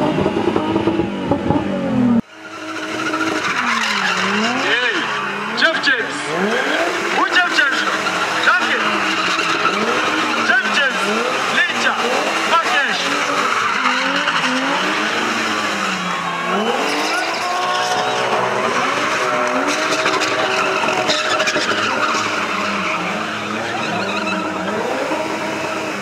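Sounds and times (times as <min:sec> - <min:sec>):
car engines revving: 0:00.0 - 0:26.0
tyres screeching: 0:02.2 - 0:26.0.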